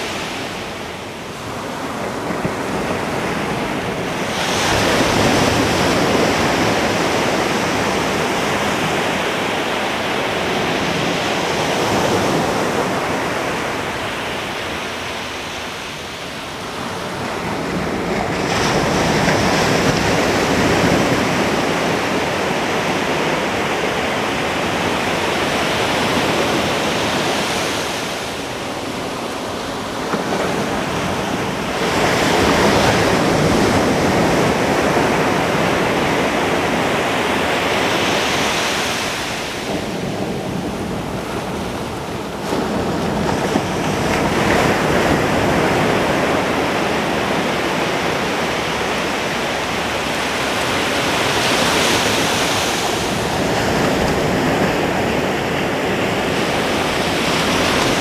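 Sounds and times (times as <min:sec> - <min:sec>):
ocean waves breaking on beach: 0:00.0 - 0:58.0
wind on microphone: 0:00.0 - 0:58.0.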